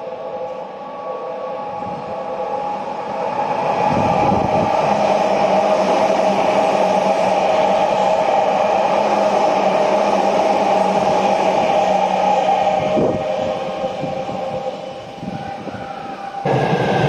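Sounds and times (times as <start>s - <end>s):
electric train hum: 0.0s - 17.0s
train wheels rumbling on rail: 0.0s - 17.0s.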